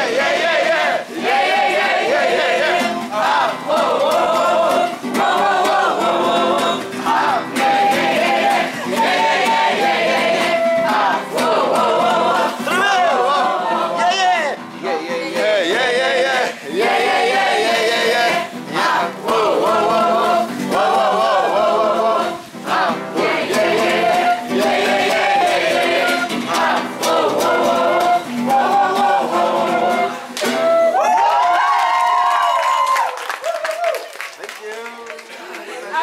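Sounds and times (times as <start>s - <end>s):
group of voices singing: 0.0s - 31.0s.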